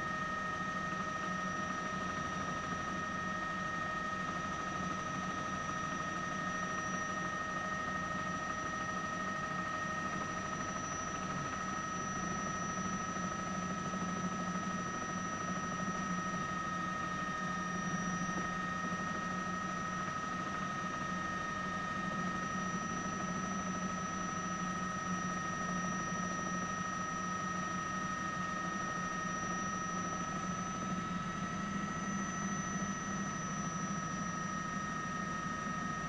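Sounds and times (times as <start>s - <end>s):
helicopter drone: 0.0s - 36.0s.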